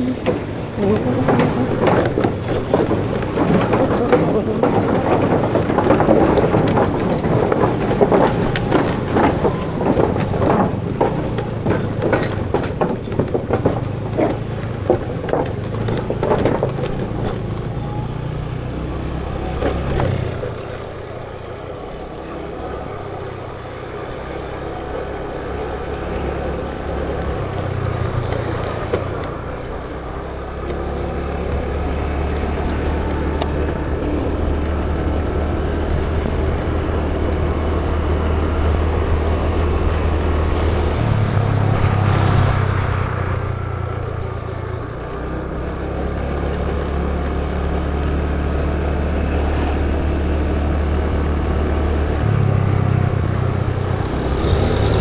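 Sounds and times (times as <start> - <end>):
clatter and short knocks: 0.0 - 22.6, 23.6 - 55.0
road traffic: 0.0 - 55.0.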